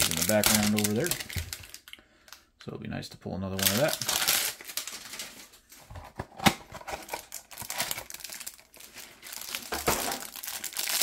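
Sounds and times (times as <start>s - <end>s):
crinkling paper and plastic: 0.0s - 2.4s, 3.6s - 11.0s.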